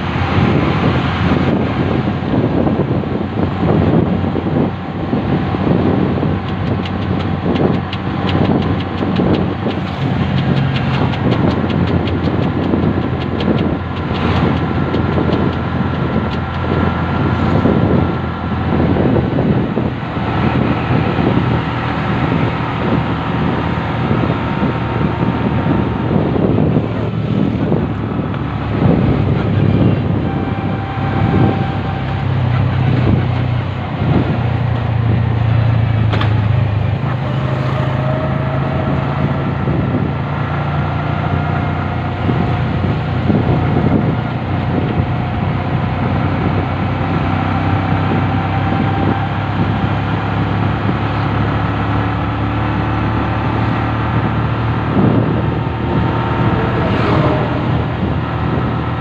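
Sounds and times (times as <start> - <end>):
vehicle engine droning: 0.0 - 59.0
wind and road noise: 0.0 - 59.0.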